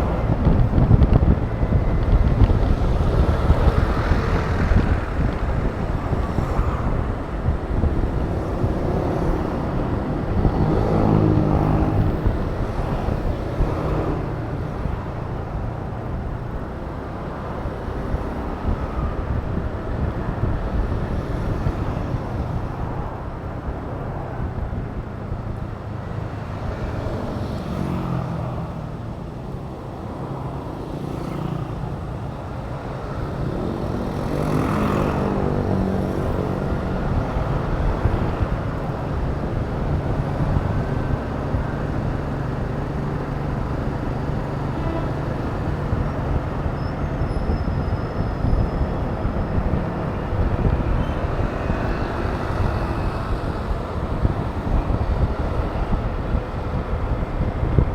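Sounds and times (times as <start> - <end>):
road and traffic noise: 0.0 - 57.9.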